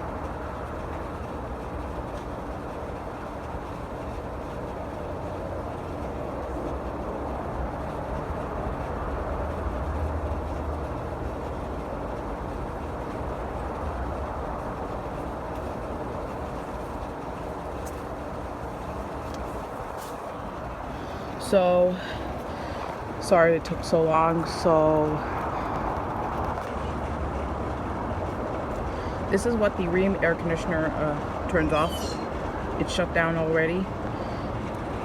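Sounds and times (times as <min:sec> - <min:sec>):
air conditioner hum: 0:00.0 - 0:35.0
condenser fan rushing: 0:00.0 - 0:35.0.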